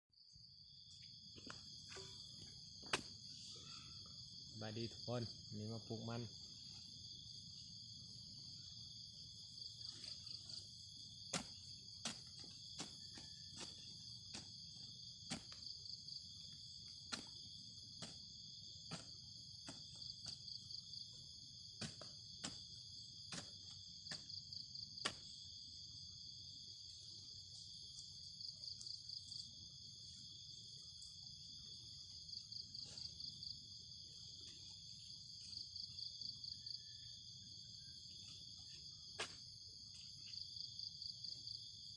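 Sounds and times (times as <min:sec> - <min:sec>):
insect chorus: 0:00.2 - 0:41.9.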